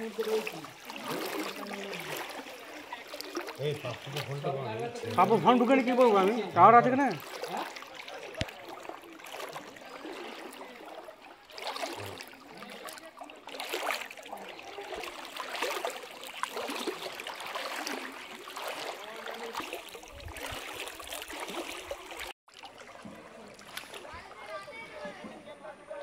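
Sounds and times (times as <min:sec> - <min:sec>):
floodwater sloshing and splashing: 0:00.0 - 0:26.0.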